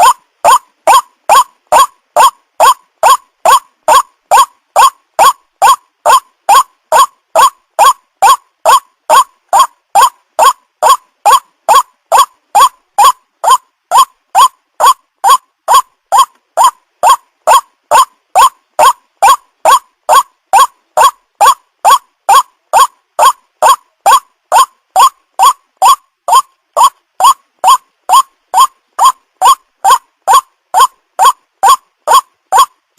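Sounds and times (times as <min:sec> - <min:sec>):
bird calling harsh notes: 0:00.0 - 0:32.8.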